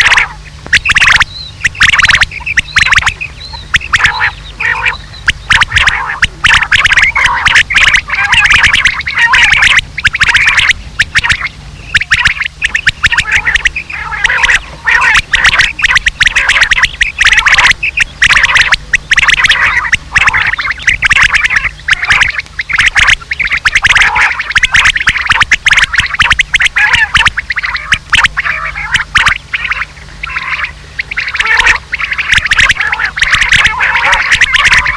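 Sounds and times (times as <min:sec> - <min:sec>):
low steady hum: 0:00.0 - 0:34.9
quail chattering calls: 0:00.0 - 0:34.9.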